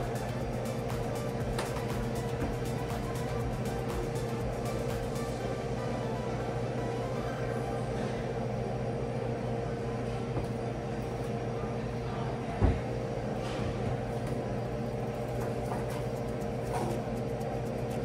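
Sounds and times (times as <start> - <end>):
ventilation fan humming: 0.0 - 18.0.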